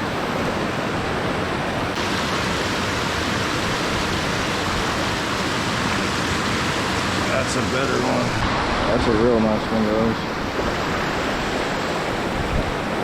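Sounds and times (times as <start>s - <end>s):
water rushing over spillway: 0.0s - 13.0s.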